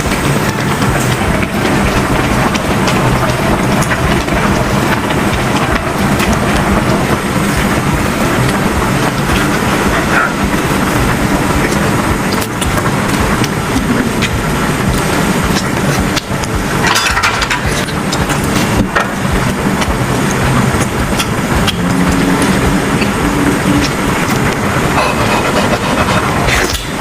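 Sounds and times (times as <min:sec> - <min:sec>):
train rumbling and humming: 0:00.0 - 0:27.0.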